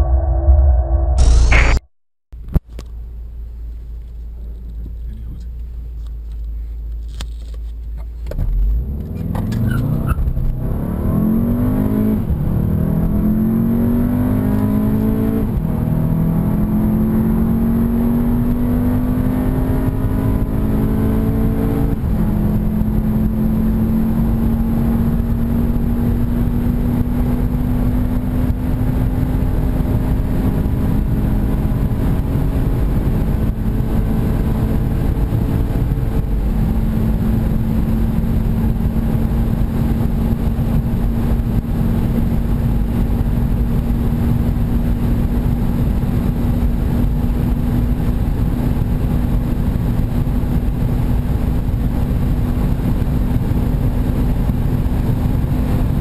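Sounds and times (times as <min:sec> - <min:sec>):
car engine accelerating: 0:08.1 - 0:56.0.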